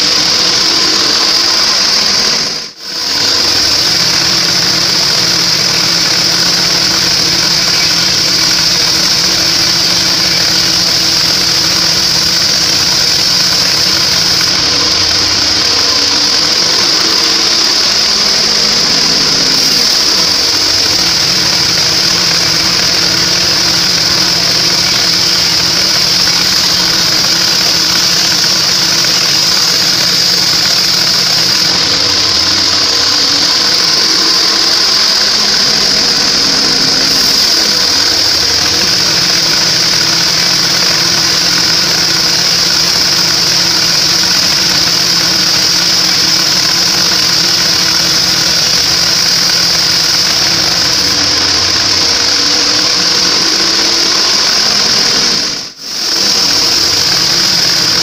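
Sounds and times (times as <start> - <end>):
band saw blade whine: 0.0 - 58.0
sawmill machine hum: 0.0 - 58.0.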